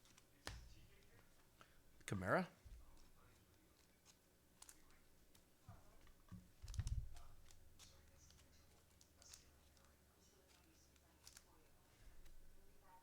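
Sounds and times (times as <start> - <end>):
trading cards clicking and sliding: 0.0 - 1.5, 2.8 - 12.4.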